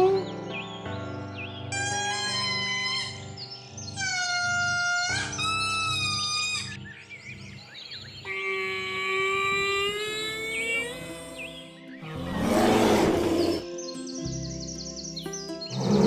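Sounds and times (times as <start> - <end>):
background music of held chords: 0.0 - 8.2, 10.7 - 16.0.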